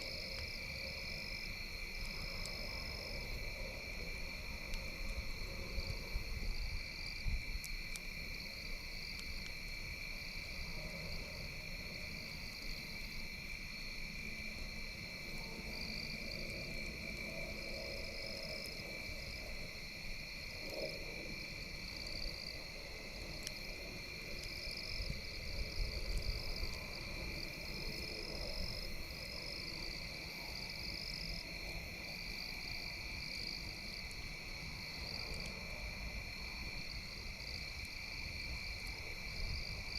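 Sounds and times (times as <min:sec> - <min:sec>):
insects and frogs calling: 0:00.0 - 0:39.9.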